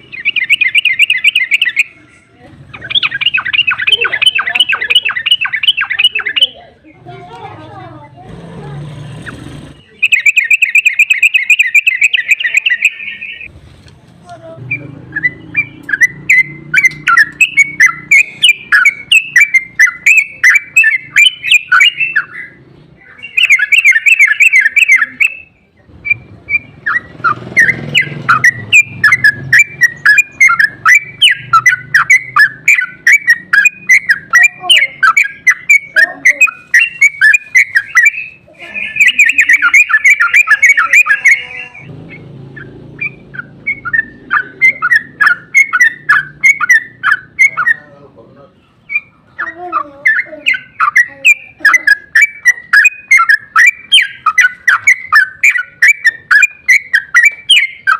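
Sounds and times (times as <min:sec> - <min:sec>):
bulbul chattering song: 0:00.0 - 0:13.5, 0:14.2 - 0:57.9.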